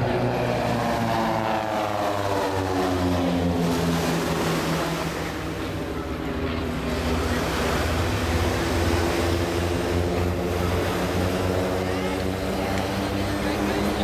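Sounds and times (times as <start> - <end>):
propeller planes droning overhead: 0.0 - 14.0
surf washing: 0.0 - 14.0.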